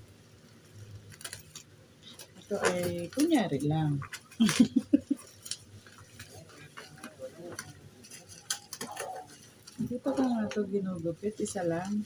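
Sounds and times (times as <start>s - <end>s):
packaging handling noise: 0.4s - 12.0s.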